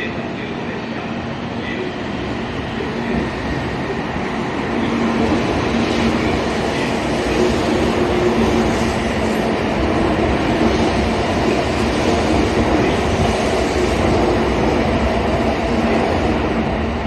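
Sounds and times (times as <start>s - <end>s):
high-speed train running: 0.0s - 17.0s.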